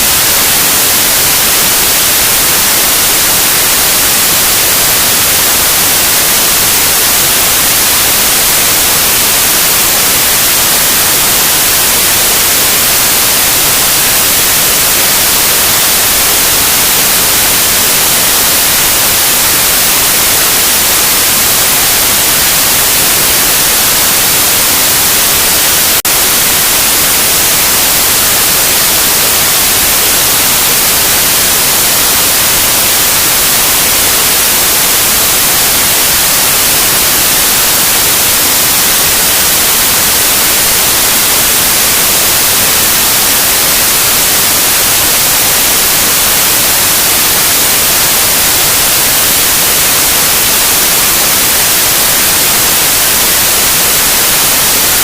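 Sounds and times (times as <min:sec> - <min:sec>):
loud steady white noise: 0:00.0 - 0:55.0.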